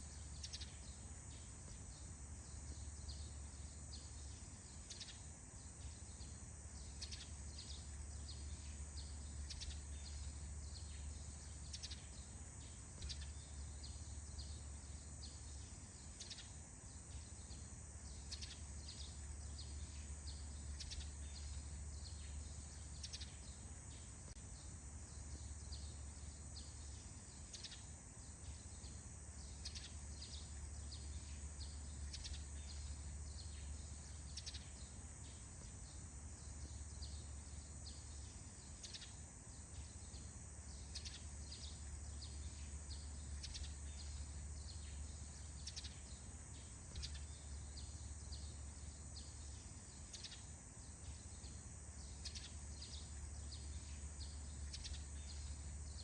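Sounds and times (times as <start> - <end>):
bird chirps: 0.0 - 56.0
steady high hiss: 0.0 - 56.0.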